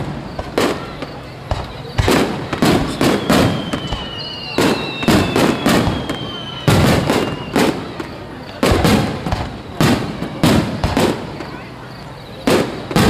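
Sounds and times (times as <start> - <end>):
falling firework whistle: 0.0 - 13.0
firework shells bursting: 0.0 - 13.0.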